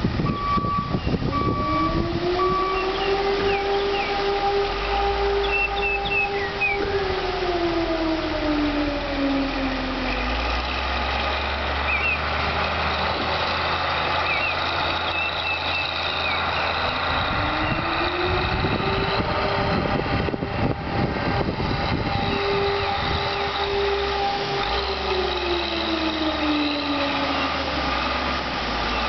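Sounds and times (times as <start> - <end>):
heavy machinery engine running: 0.0 - 29.0.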